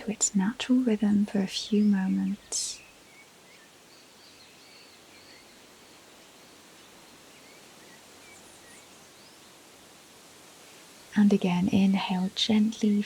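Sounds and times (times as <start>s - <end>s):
soft steady hiss: 0.0s - 13.0s.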